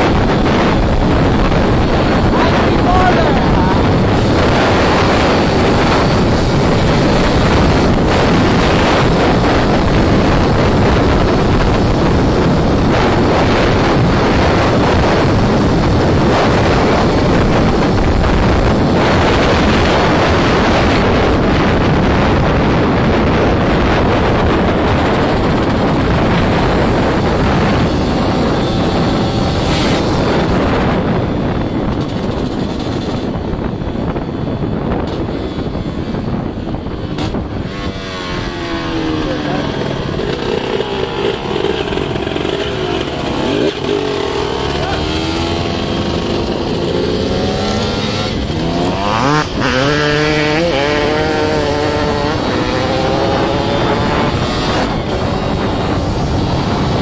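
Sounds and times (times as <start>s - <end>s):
two-stroke motorcycle engine: 0.0s - 57.0s
wind buffeting microphone: 0.0s - 57.0s.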